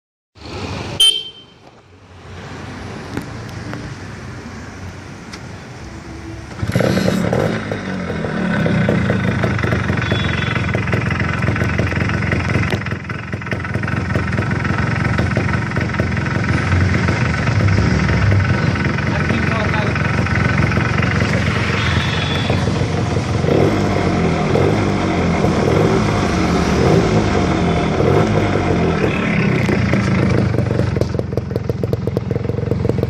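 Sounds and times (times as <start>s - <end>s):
motorcycle engine and exhaust: 0.4s - 2.0s, 6.0s - 33.0s.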